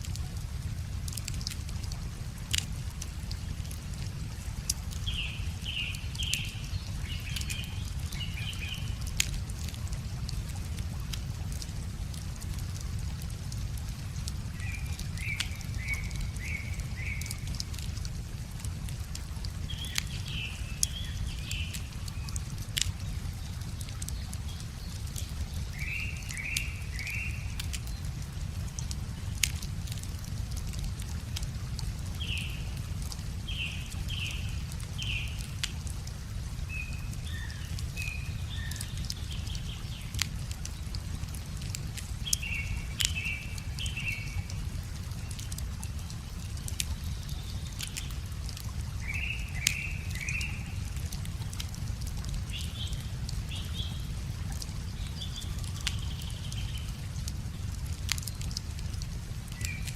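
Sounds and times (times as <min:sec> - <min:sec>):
wood fire crackling: 0:00.0 - 0:59.9
songbirds chirping: 0:02.2 - 0:59.9.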